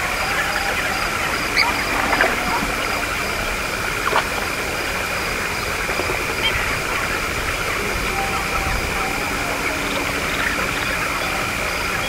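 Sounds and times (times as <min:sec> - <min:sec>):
faint calls: 0:00.0 - 0:12.0.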